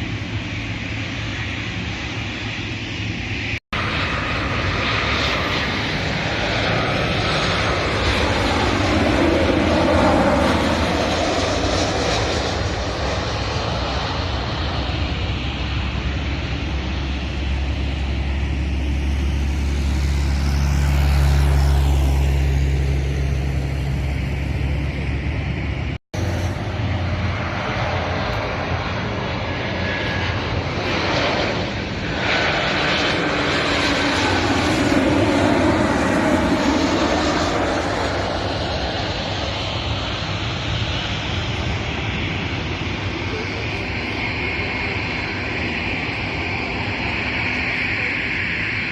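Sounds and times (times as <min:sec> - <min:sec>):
airliner engines passing: 0:00.0 - 0:48.9.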